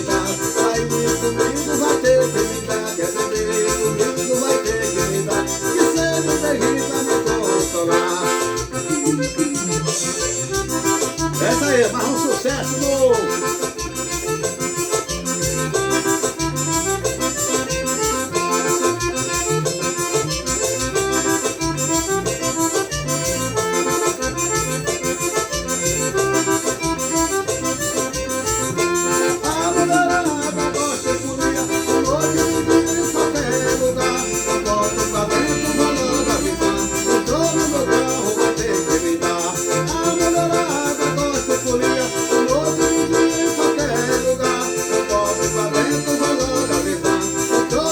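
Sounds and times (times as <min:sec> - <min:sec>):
accordion: 0:00.0 - 0:47.9
bass line: 0:00.0 - 0:47.9
percussion beat: 0:00.0 - 0:47.9.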